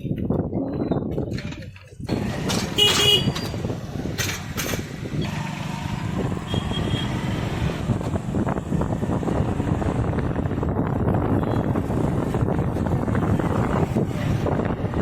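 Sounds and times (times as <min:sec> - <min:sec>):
vehicle engines running: 0:01.5 - 0:15.0.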